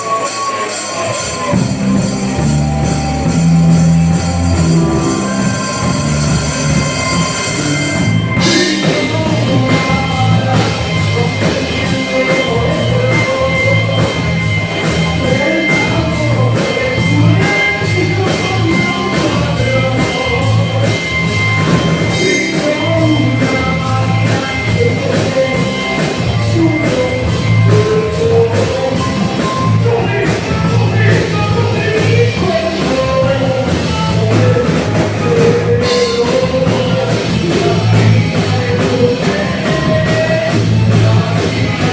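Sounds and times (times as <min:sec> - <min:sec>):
guitar: 0:00.0 - 0:41.9
live rock band: 0:00.0 - 0:41.9
person singing: 0:00.0 - 0:41.9
drum beat: 0:00.4 - 0:41.9.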